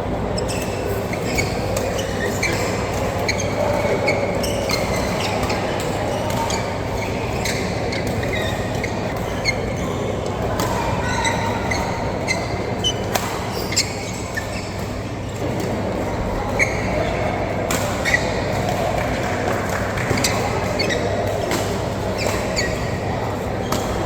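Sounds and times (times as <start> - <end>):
shoes squeaking on court: 0.2 - 24.0.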